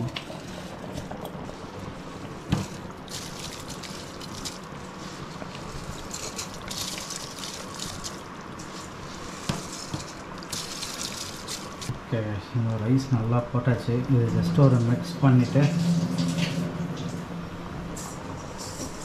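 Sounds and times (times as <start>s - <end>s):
liquid boiling in a metal pot: 0.0s - 19.0s.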